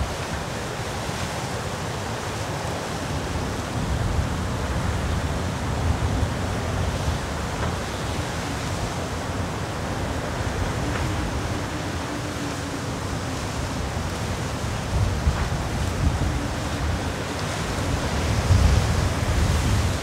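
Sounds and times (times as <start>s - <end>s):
wind blowing in gusts: 0.0s - 20.0s
wind buffeting microphone: 0.0s - 20.0s.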